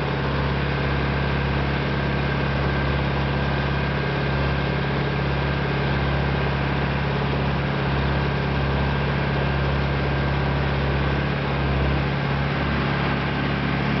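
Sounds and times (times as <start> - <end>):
tractor engine running under load: 0.0 - 14.0.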